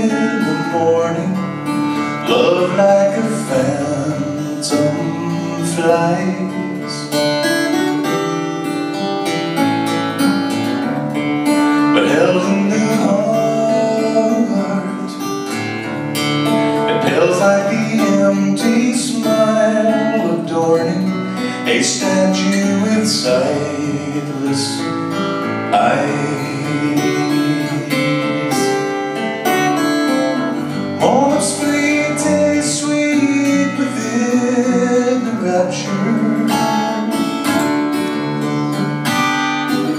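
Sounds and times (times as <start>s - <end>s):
man singing: 0.0s - 8.2s, 11.8s - 15.8s, 16.6s - 39.9s
acoustic guitar: 0.0s - 39.9s.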